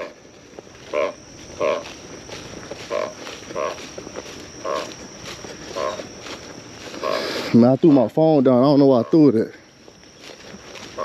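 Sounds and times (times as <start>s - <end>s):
frog croaking: 0.0s - 11.0s.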